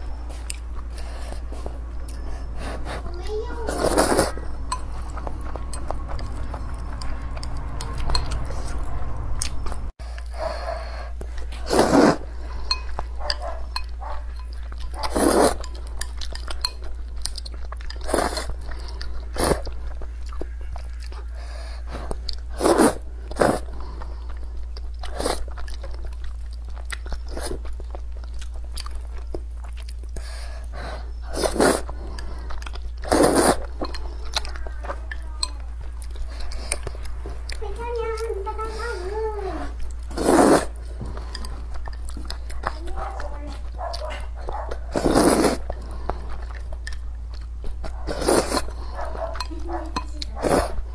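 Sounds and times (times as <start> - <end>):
person chewing noodles: 0.0 - 50.9
steady low hum: 0.0 - 50.9.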